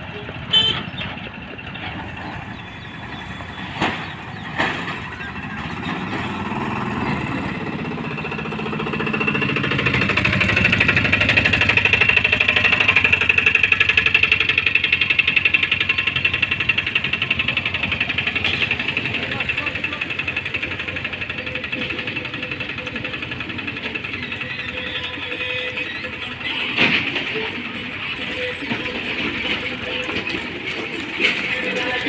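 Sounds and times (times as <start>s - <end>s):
train passing with clatter: 0.0s - 32.0s.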